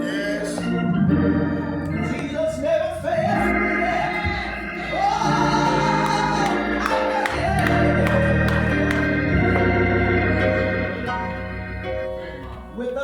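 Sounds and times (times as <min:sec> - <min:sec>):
electric organ chords: 0:00.0 - 0:13.0.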